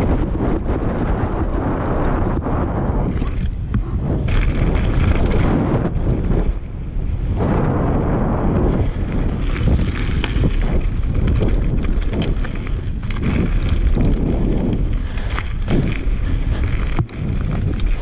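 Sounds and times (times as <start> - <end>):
bike clicking and rattling: 0.0 - 6.7, 8.6 - 18.0
tyre rumble on loose ground: 0.0 - 18.0
wind rush on microphone: 0.0 - 18.0.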